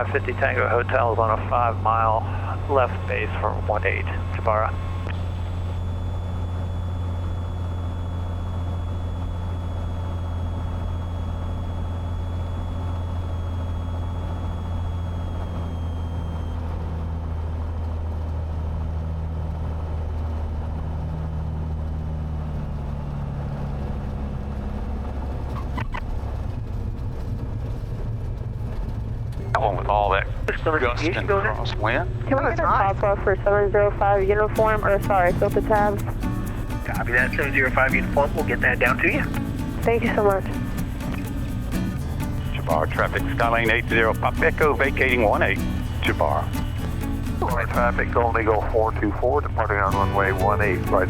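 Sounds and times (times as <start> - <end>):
airplane engine drone in cabin: 0.0 - 51.0
faint high whine: 0.0 - 51.0.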